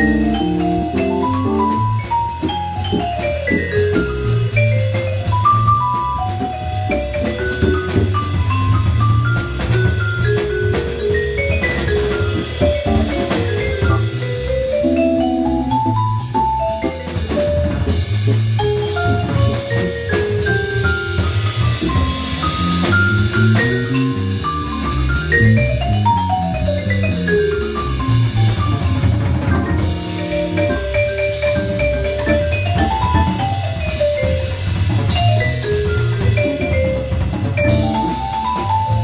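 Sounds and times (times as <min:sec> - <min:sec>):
drum kit keeping time: 0:00.0 - 0:39.0
vibraphone fast runs: 0:00.0 - 0:39.0.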